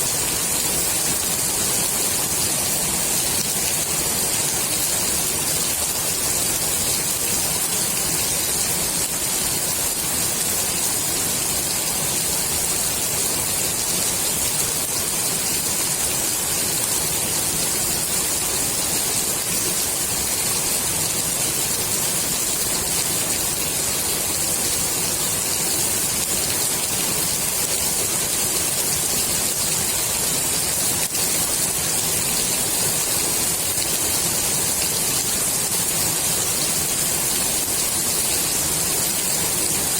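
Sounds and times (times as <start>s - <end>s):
heavy rain on pool water: 0.0s - 39.9s.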